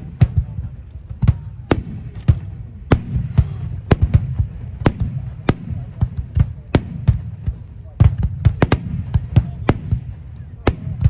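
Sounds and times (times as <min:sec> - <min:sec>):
fireworks bursting with sharp bangs: 0:00.0 - 0:11.0
low rumble of booms and echoes: 0:00.0 - 0:11.0.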